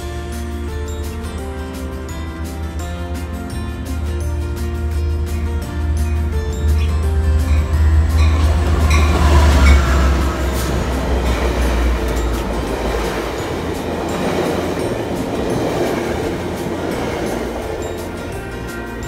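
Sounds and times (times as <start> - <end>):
diesel locomotive engine rumble: 0.0 - 19.0
wheel and rail noise: 0.0 - 19.0.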